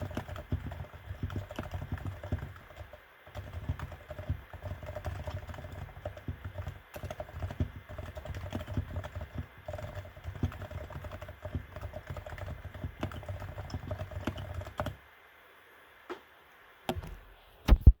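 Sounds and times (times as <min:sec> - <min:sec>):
muted keyboard keystrokes: 0:00.0 - 0:15.0.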